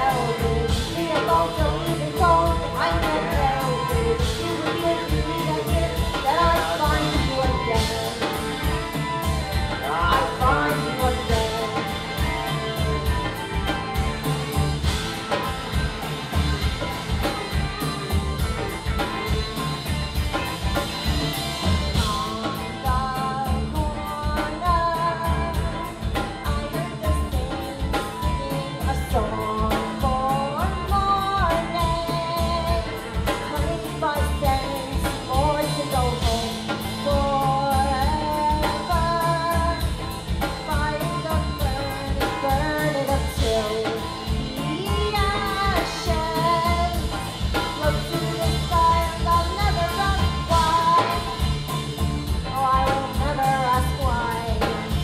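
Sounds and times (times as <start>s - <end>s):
live rock band playing: 0.0s - 55.0s
woman singing lead: 0.0s - 55.0s.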